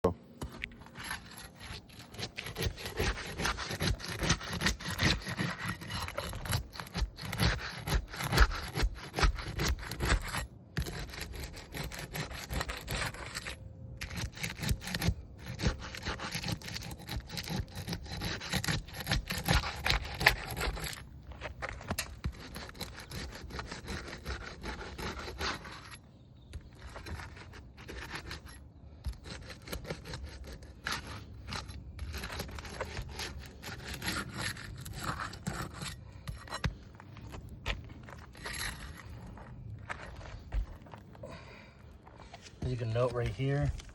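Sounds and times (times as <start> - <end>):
roofing shingles being scraped: 0.4 - 41.4.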